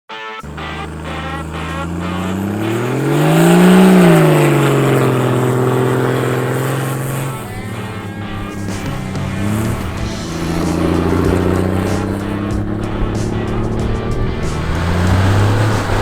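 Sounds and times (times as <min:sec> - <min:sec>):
diesel engine revving: 0:00.4 - 0:16.0.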